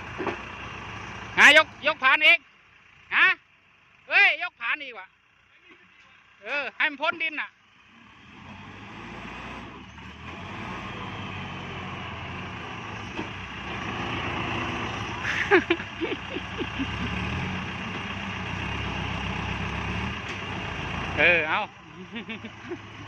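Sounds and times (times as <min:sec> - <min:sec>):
diesel tractor engine under load: 0:00.0 - 0:04.1, 0:05.1 - 0:23.0.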